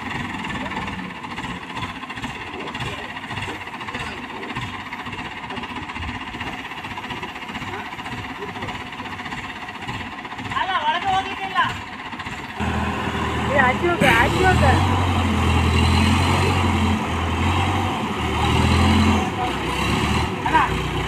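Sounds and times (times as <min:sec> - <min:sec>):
crane engine running: 0:00.0 - 0:21.0.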